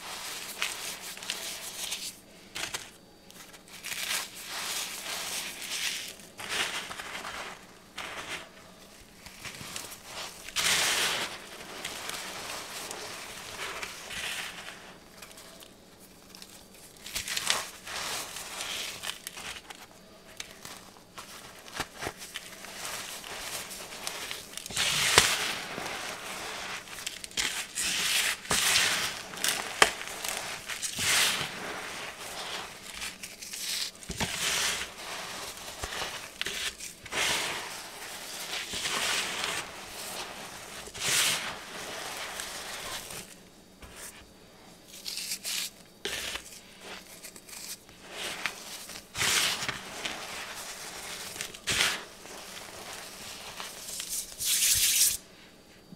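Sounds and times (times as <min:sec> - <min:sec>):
hands crumbling cornstarch chunks: 0:00.0 - 0:55.2.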